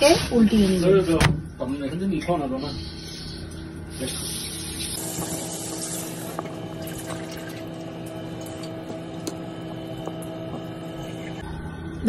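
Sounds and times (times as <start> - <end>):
machine hum: 1.4 - 12.0.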